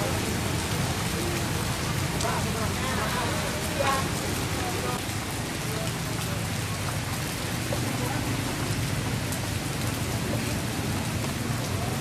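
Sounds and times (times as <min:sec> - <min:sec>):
heavy rain on street: 0:00.0 - 0:12.0.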